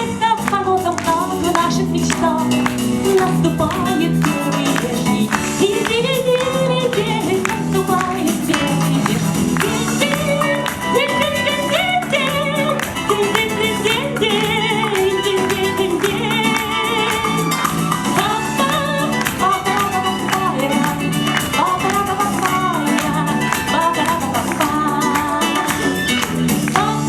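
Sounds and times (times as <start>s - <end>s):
pop song instrumental: 0.0s - 27.0s.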